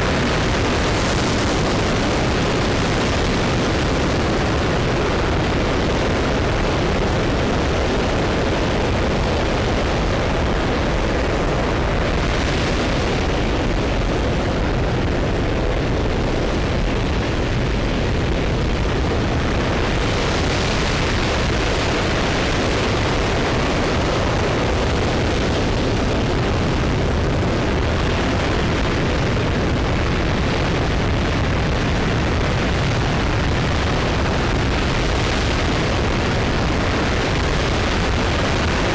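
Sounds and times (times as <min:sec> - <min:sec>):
rocket engine roaring: 0:00.0 - 0:38.9.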